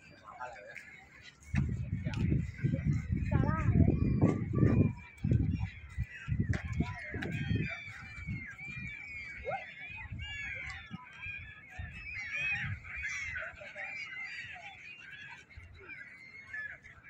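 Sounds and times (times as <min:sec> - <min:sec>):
flock of gulls calling: 0:00.0 - 0:17.0.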